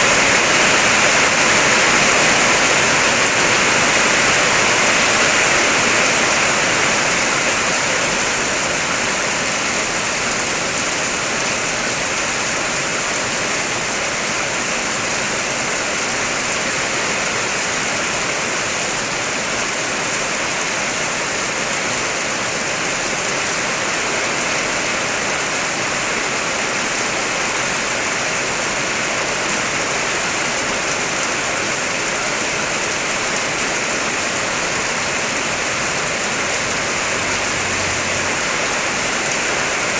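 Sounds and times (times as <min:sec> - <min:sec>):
heavy rain on car body: 0:00.0 - 0:39.9.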